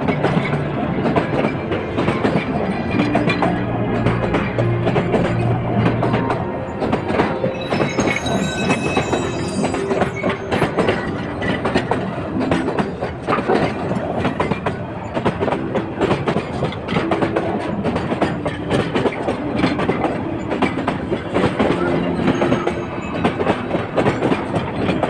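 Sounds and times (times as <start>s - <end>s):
train wheels clacking over rail joints: 0.0s - 25.0s.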